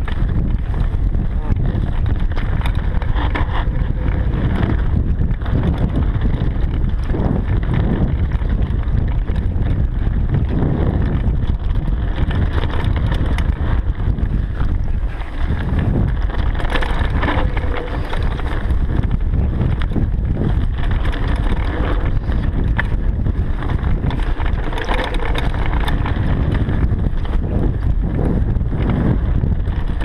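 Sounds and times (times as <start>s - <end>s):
bike rattling and knocking: 0.0s - 30.0s
tyres rumbling on dirt: 0.0s - 30.0s
wind rushing over microphone: 0.0s - 30.0s.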